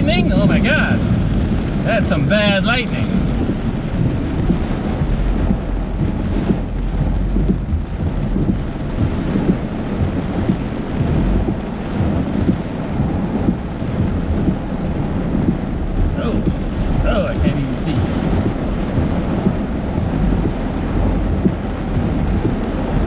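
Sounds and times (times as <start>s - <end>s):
heavy rain on car: 0.0s - 23.0s
thunder rumbling: 0.0s - 23.0s.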